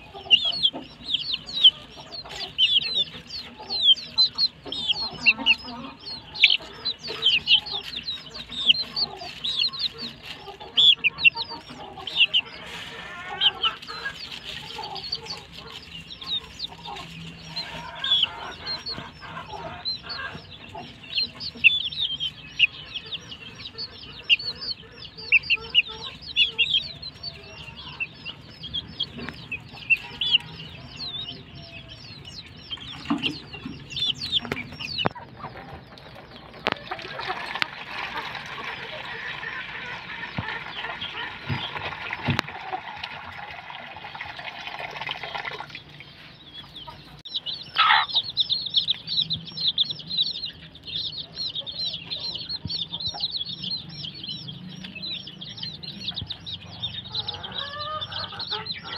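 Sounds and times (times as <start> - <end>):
low chicken cluck: 0.0 - 43.5, 44.8 - 58.9
chicks peeping: 0.0 - 58.9.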